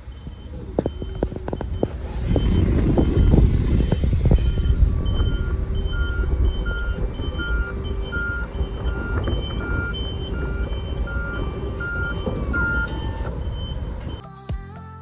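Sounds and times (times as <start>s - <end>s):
diesel engine running: 0.0s - 14.2s
truck reversing alarm beeping: 0.0s - 14.2s.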